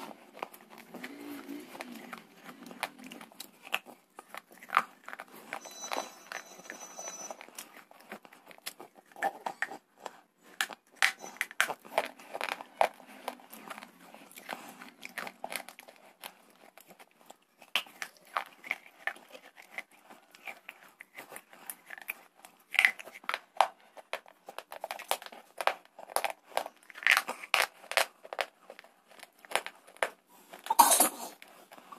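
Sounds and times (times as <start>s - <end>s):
crunchy chewing: 0.0s - 31.9s.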